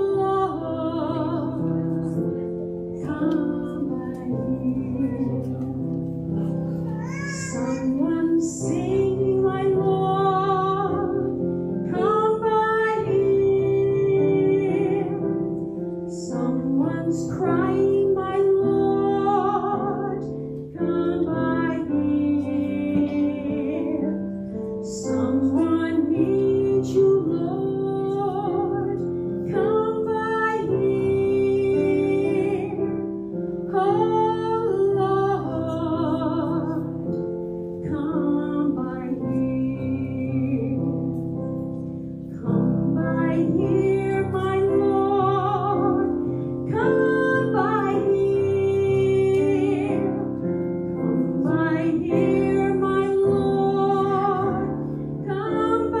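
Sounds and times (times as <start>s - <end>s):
woman singing slow hymn-like song: 0.0s - 6.2s, 7.4s - 56.0s.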